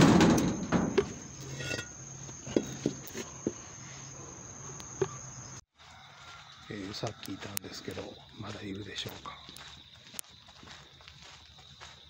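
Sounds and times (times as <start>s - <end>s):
cricket drone: 0.0s - 12.0s.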